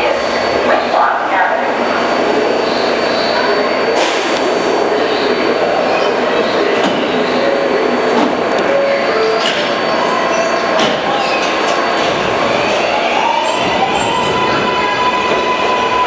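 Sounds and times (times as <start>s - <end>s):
subway train equipment hum: 0.0s - 16.0s.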